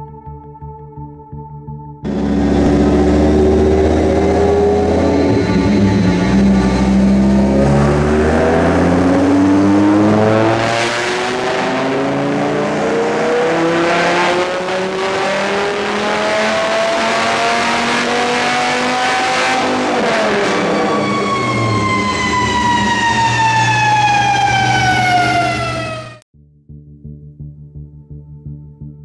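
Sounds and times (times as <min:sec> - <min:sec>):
car engine revving at full throttle: 0:02.1 - 0:26.2.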